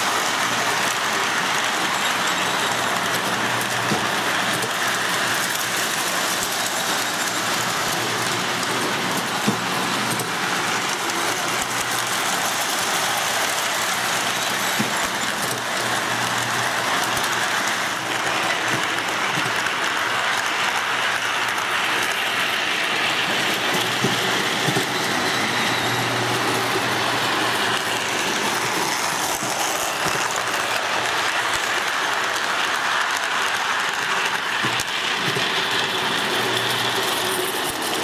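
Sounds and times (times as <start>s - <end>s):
toy train running on track: 0.0s - 38.0s.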